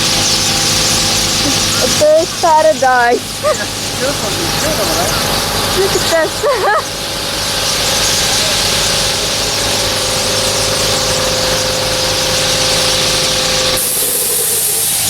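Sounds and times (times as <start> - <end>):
broad hiss: 0.0 - 15.0
engine-like hum with held tones: 0.0 - 15.0.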